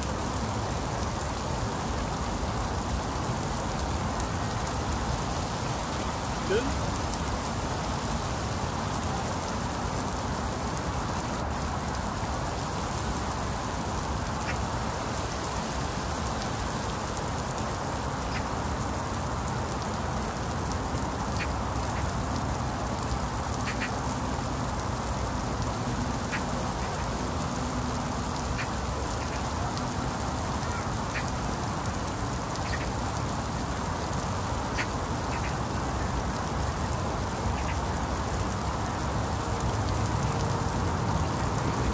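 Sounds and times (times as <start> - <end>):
heavy rain on pavement: 0.0 - 41.9.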